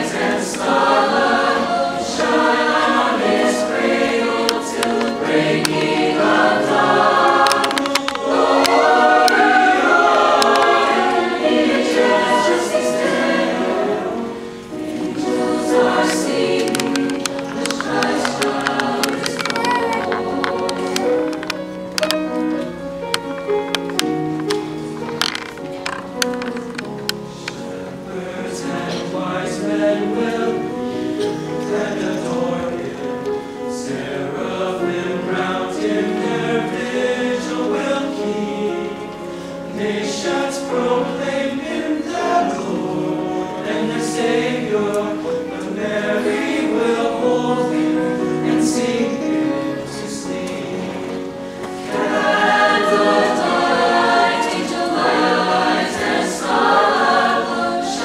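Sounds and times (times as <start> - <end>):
choir singing: 0.0 - 22.4, 26.8 - 58.0.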